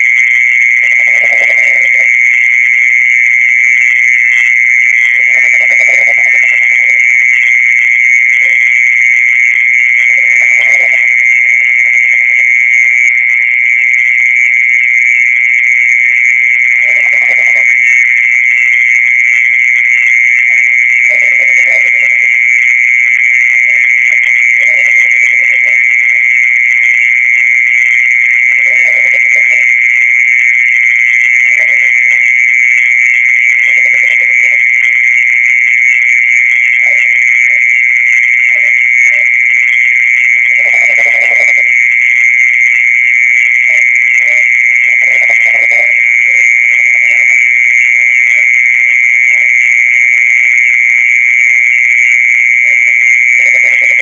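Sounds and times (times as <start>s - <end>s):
mole cricket trilling: 0.0s - 54.0s.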